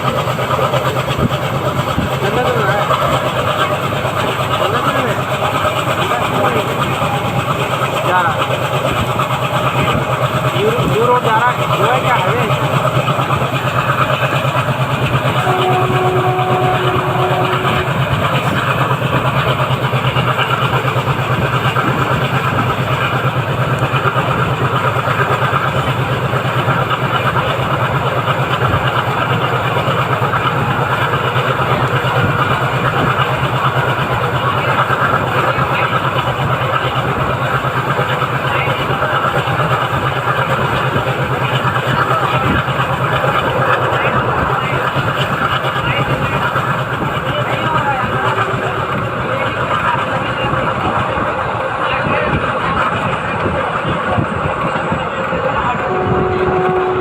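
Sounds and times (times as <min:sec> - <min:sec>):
diesel locomotive engine chugging: 0:00.0 - 0:57.0.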